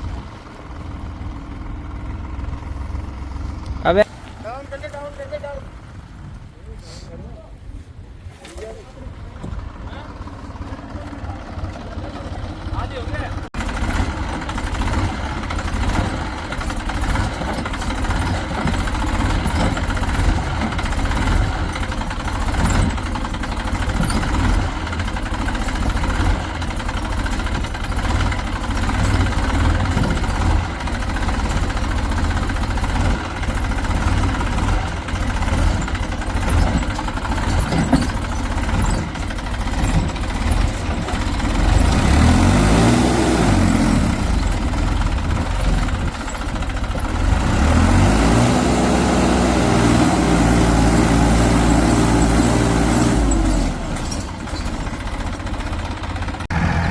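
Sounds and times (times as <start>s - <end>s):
heavy diesel engine running: 0.0s - 4.1s, 9.0s - 56.9s.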